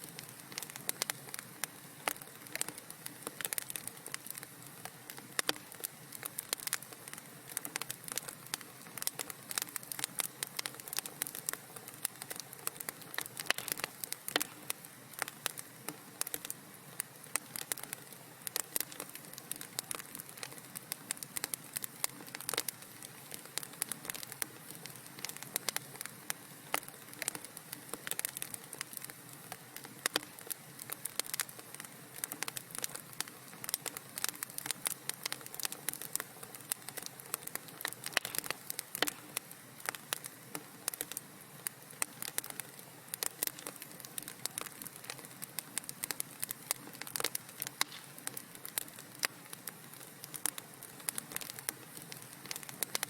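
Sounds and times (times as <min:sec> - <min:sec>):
soft steady hiss: 0:00.0 - 0:53.0
wood fire crackling: 0:00.0 - 0:53.0.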